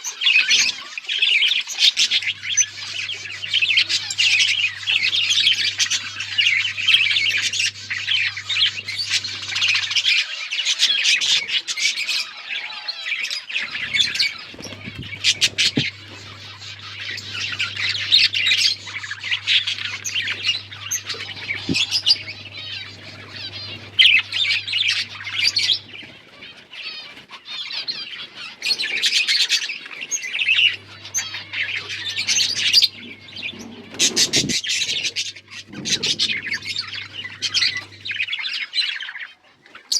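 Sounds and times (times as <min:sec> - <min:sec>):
budgerigars chattering: 0:00.1 - 0:39.4.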